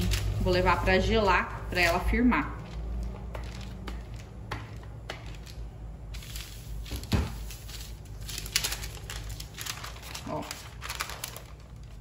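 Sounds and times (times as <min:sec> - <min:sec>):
parchment paper rustling: 0:00.0 - 0:12.0.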